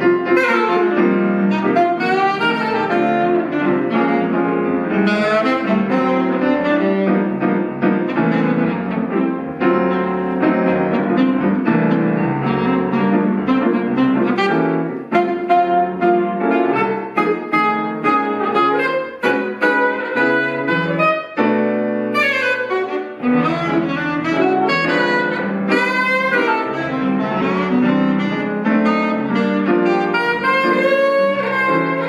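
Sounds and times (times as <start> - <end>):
alto saxophone: 0.0 - 32.0
jazz piano: 0.0 - 32.0.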